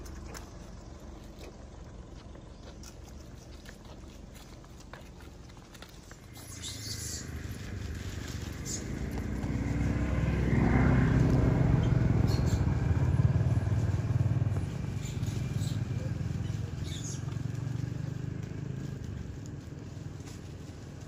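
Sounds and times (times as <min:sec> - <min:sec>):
motorcycle engine passing: 0:00.0 - 0:21.0.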